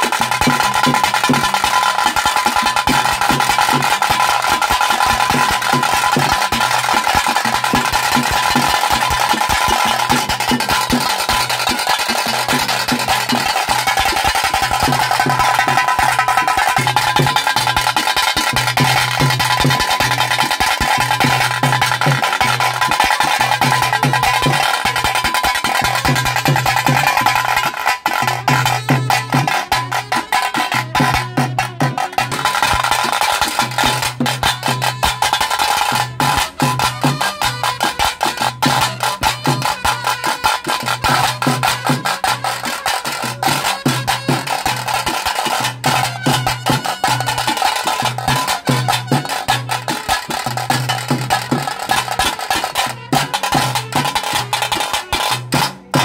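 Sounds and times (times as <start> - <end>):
fast drum strokes: 0.0 - 56.0.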